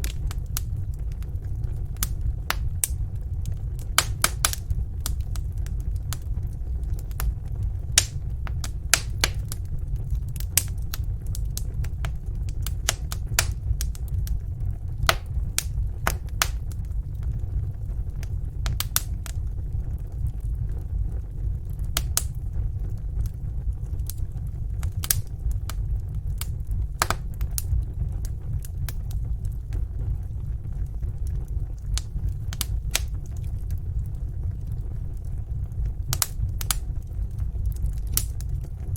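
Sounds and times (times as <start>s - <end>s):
fire pops and snaps: 0.0s - 38.9s
wood fire crackling: 0.0s - 38.9s.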